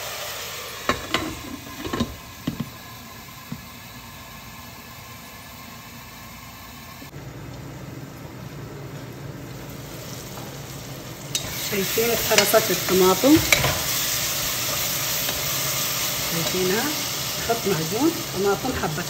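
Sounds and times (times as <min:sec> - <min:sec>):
vegetables sizzling: 0:00.0 - 0:19.0.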